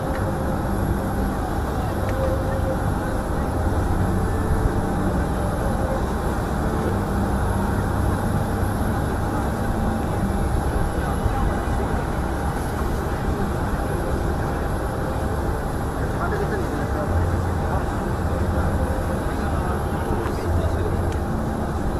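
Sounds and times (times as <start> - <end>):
low rumble and hum: 0.0 - 21.9.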